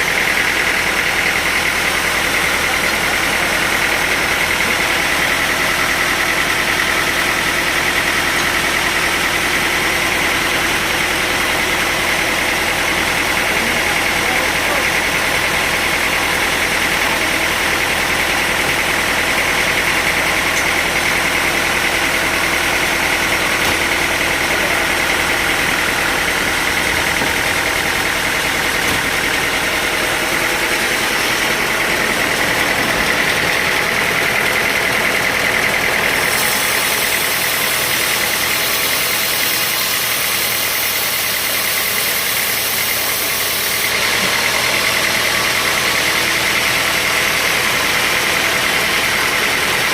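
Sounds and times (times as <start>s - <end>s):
sawmill engine droning with whine: 0.0s - 49.9s.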